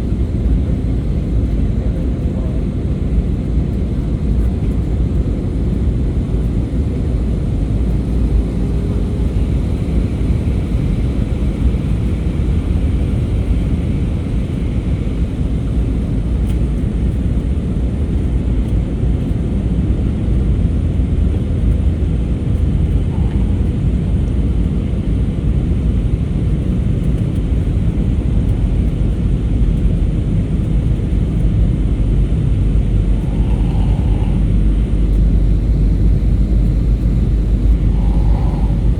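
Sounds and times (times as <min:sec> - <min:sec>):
airliner cabin engine roar: 0:00.0 - 0:38.9.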